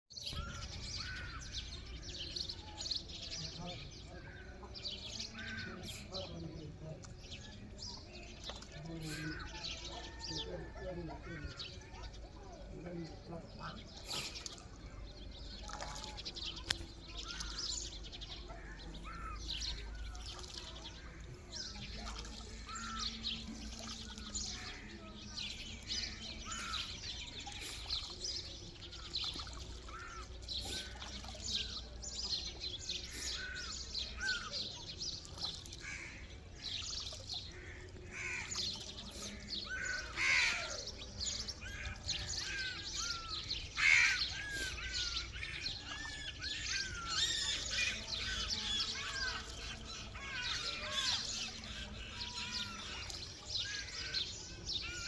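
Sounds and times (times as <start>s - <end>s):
small birds chirping: 0.1s - 55.0s
loud sweeping bird calls: 0.2s - 6.3s, 15.4s - 55.0s.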